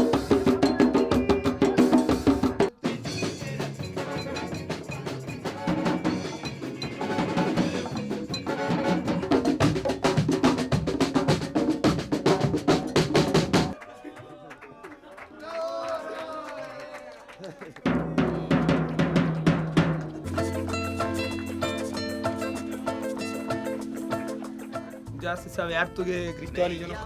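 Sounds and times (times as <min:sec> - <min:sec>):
music with fast percussion: 0:00.0 - 0:13.8, 0:17.8 - 0:27.0.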